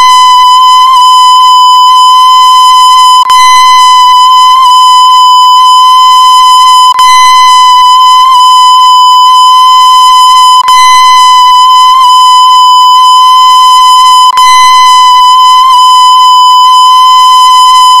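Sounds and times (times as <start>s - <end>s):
steady censor bleep: 0.0s - 18.0s.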